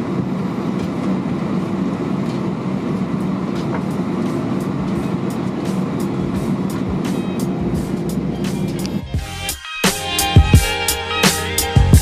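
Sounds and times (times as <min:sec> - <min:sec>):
jet engines idling hum: 0:00.0 - 0:11.7.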